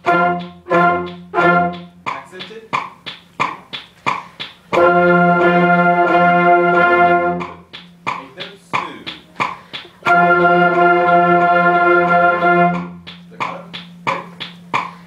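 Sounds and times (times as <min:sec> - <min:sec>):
steady ticking: 0:00.0 - 0:15.0.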